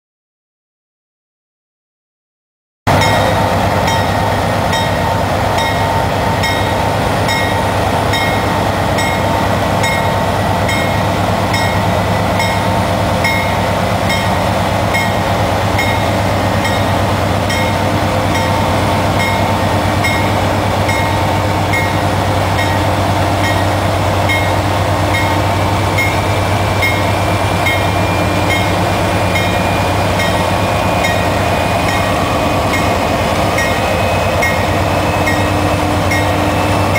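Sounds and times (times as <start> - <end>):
diesel locomotive engine hum: 2.9 - 36.9
locomotive bell ringing: 2.9 - 36.9.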